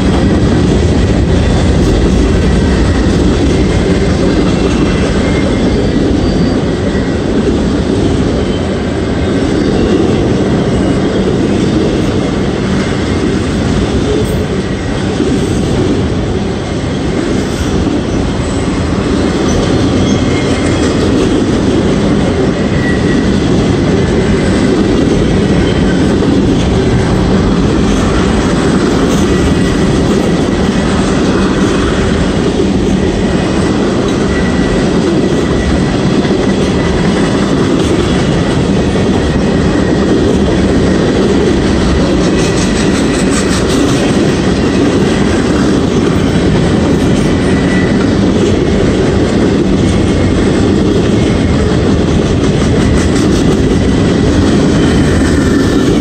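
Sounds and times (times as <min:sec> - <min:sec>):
freight train rumbling past: 0:00.0 - 0:56.0
steel wheels clattering on rails: 0:00.0 - 0:56.0.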